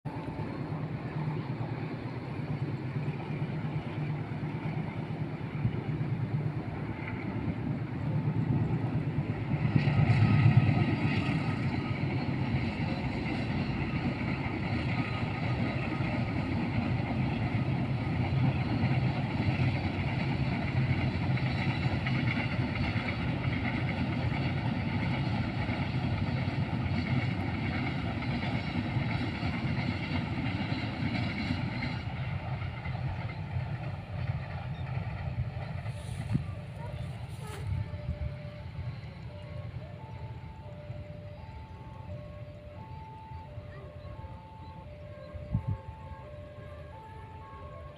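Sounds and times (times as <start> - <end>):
rail noise: 0.0 - 47.9
train engine hum: 0.0 - 47.9.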